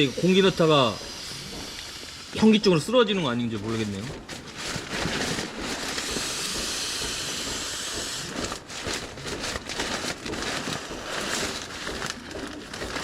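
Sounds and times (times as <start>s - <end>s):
breath puffs: 0.0s - 2.8s, 4.1s - 13.0s
air hissing into sleeping mat: 0.0s - 4.0s, 4.8s - 12.7s
rustling: 0.9s - 13.0s.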